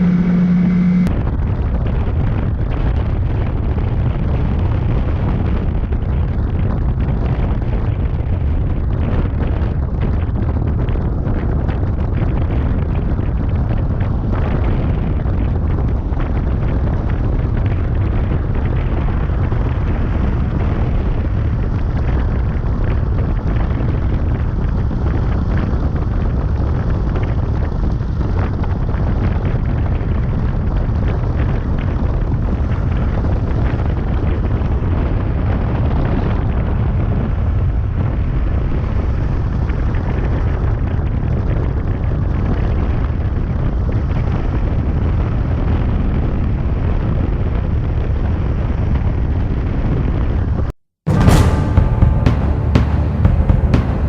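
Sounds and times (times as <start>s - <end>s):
wind buffeting microphone: 0.0s - 53.8s.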